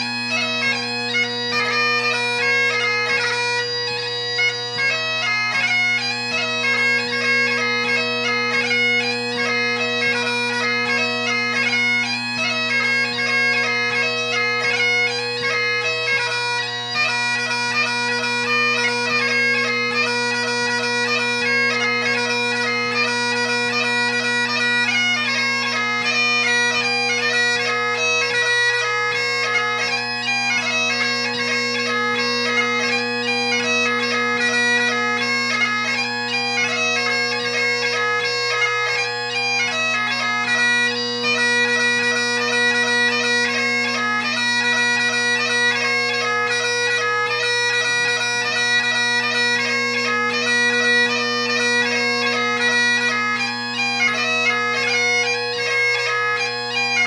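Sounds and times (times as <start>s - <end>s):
bagpipe playing: 0.0s - 57.0s.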